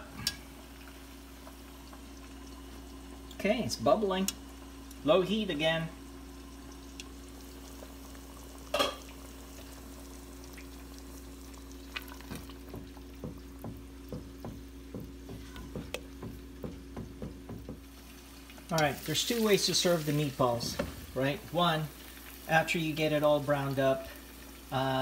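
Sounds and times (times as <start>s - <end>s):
food frying and bubbling: 0.0s - 25.0s.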